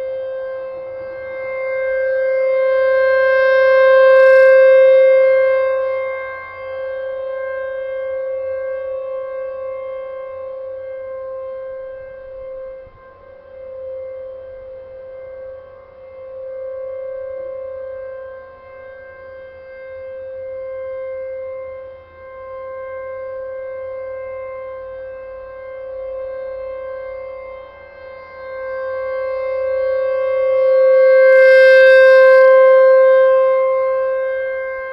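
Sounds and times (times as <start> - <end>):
warning siren steady tone: 0.0 - 34.9.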